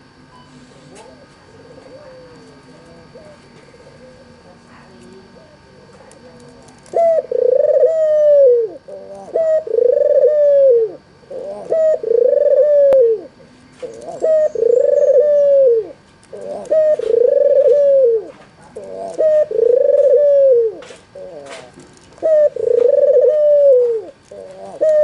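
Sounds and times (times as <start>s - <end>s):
dove cooing: 1.1s - 4.5s, 6.8s - 25.0s.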